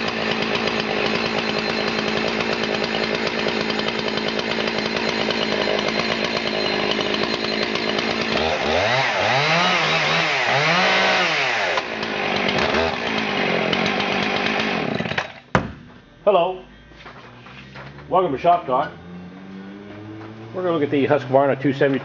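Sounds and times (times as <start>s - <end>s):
chainsaw engine revving: 0.0s - 15.5s, 17.8s - 22.0s.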